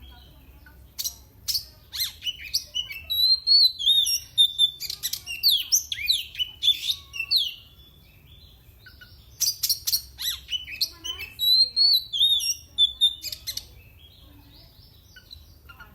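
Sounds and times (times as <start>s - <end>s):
bird singing: 0.0s - 15.9s.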